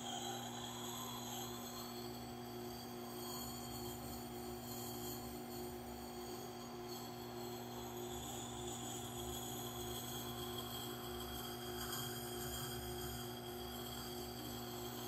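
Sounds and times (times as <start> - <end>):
wet grinder humming: 0.0 - 15.0.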